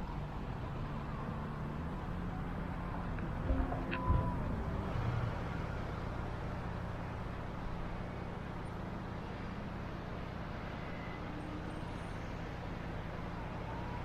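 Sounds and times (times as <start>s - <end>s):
road traffic engine hum: 0.0s - 14.0s.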